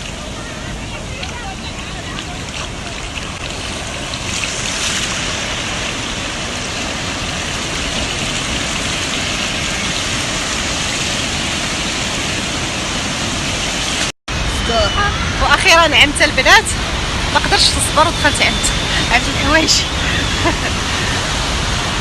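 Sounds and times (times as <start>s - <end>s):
sea surf breaking: 0.0s - 22.0s
wind rumbling on microphone: 0.0s - 22.0s.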